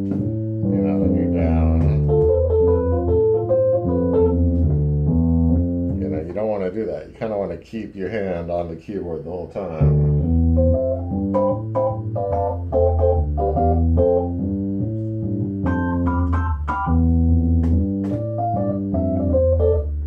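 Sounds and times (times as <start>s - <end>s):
organ chords with clicks: 0.0s - 6.4s, 9.8s - 20.0s
electronic organ bass line: 0.0s - 6.5s, 9.7s - 20.0s.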